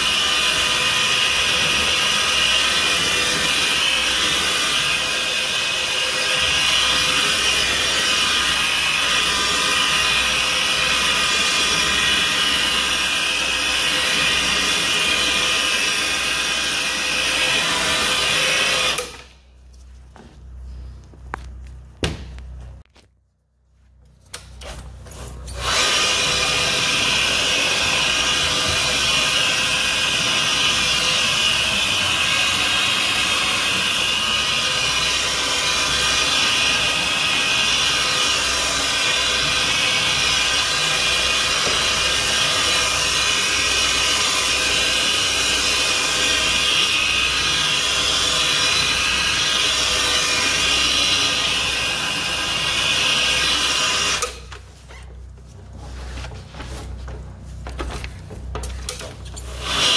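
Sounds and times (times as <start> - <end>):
vacuum cleaner whining on carpet: 0.0 - 19.3, 25.6 - 55.2, 58.6 - 59.9.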